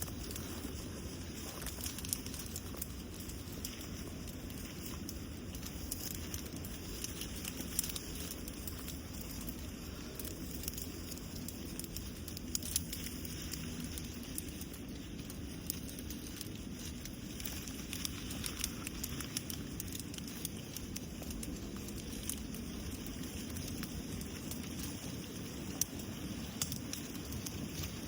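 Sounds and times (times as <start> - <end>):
leaves and bushes rustling: 0.0 - 28.0
wind rumbling on microphone: 0.0 - 28.0.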